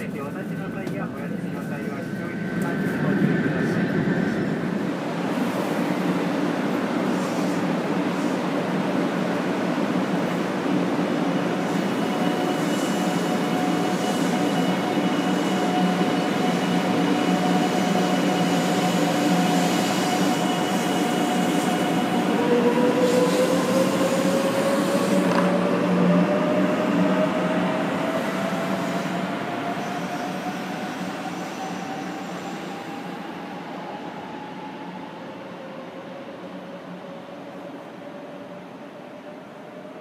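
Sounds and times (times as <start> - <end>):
train wheels on rails: 0.0 - 33.2.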